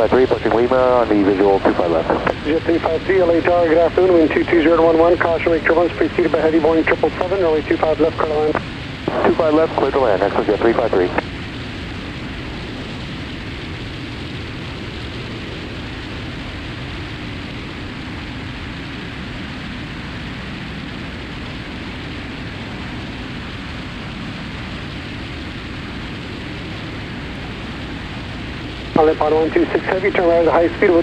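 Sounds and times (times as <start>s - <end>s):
aircraft engine and propeller drone: 0.0s - 31.0s.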